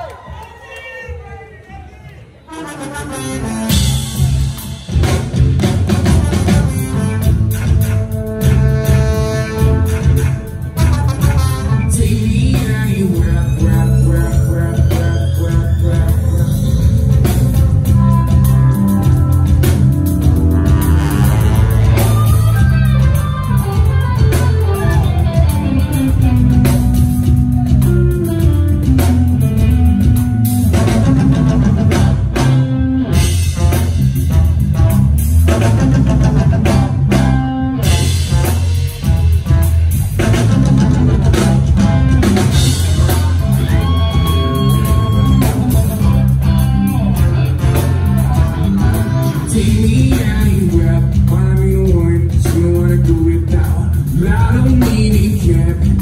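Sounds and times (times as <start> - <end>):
bass guitar: 2.7 - 56.0
drum kit steady beat: 3.4 - 56.0
electric guitar: 3.7 - 56.0.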